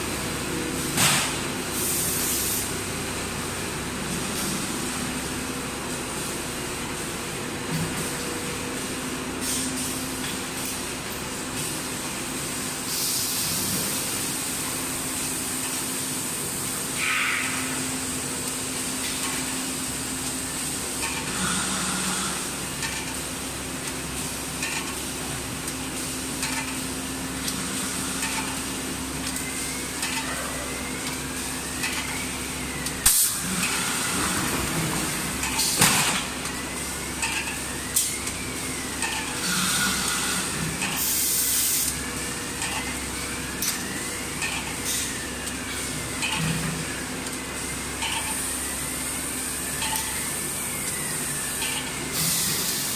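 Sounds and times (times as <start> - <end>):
machine hum with high whine: 0.0 - 52.9.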